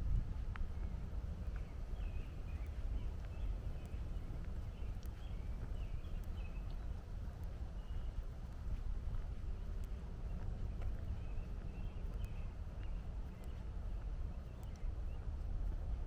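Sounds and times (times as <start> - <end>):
distant traffic rumble: 0.0 - 16.0
footsteps on trail: 0.0 - 16.0
small bird chirping: 0.8 - 15.4.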